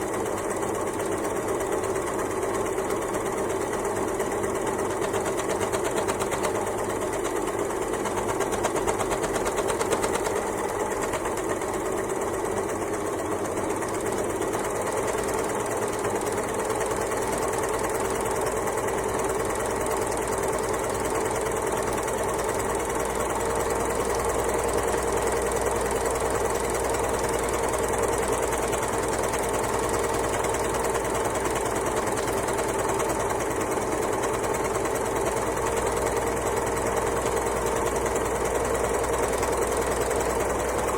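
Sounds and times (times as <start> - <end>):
overlocker sewing machine running: 0.0 - 40.9.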